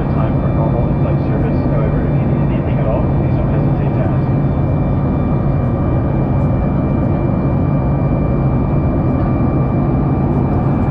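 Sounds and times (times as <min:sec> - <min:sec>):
airplane cabin engine hum: 0:00.0 - 0:10.9
faint steady whine: 0:00.0 - 0:10.9.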